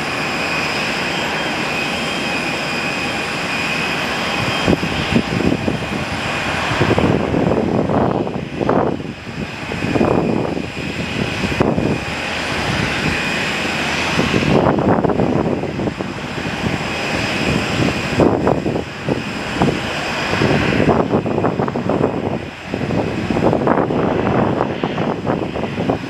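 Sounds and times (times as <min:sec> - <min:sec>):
jet engine whine and rumble: 0:00.0 - 0:26.0.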